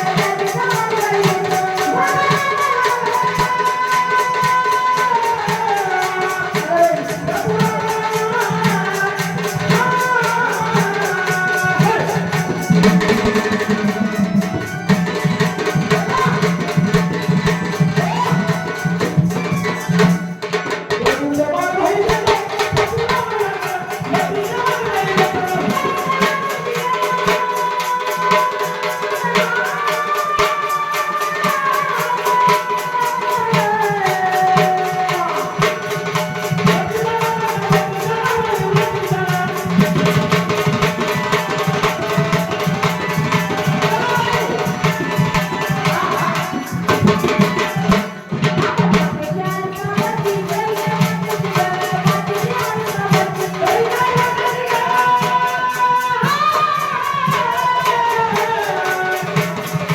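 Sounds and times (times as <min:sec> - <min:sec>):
tabla playing fast rhythm: 0:00.0 - 0:59.9.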